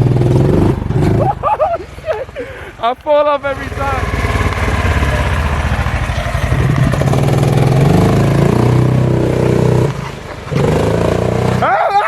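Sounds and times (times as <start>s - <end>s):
golf cart engine accelerating: 0.0s - 12.0s.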